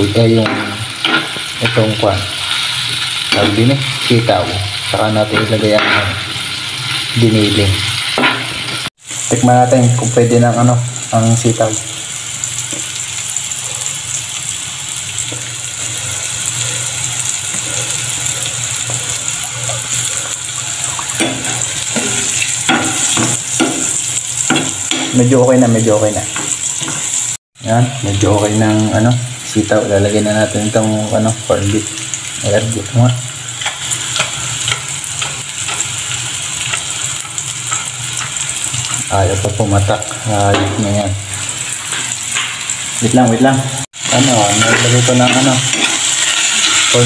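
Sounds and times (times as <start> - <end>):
beans sizzling in a frying pan: 0.0 - 47.0.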